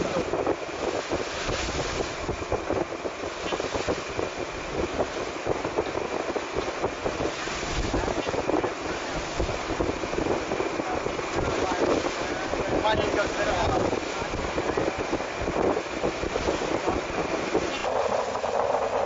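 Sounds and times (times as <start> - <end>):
sea wash: 0.0 - 19.0
wind gusting over microphone: 0.0 - 19.0.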